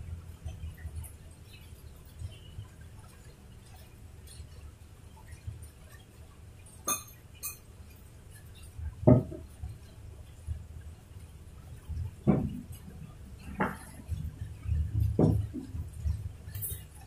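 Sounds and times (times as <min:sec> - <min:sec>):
rain: 0:00.0 - 0:17.0.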